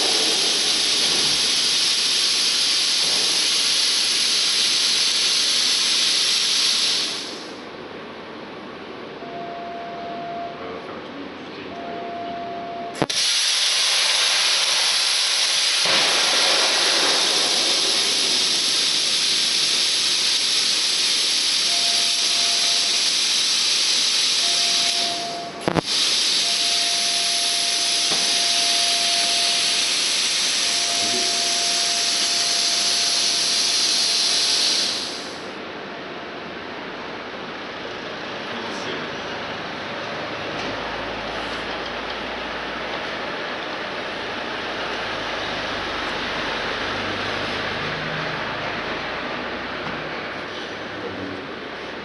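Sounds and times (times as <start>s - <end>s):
loud steady hiss: 0.0s - 8.8s, 12.9s - 35.8s, 36.5s - 52.0s.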